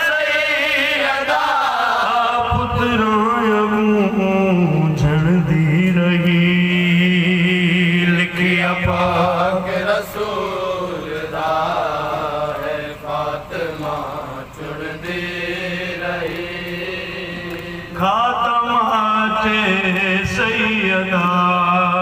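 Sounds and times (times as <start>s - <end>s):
man chanting into microphone: 0.0s - 12.1s, 12.9s - 22.0s.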